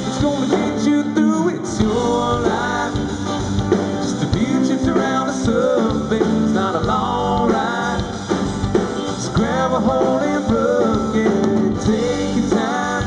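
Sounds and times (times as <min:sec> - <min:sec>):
country-rock band playing: 0:00.0 - 0:13.0
guitar melody with bending notes: 0:00.0 - 0:13.0.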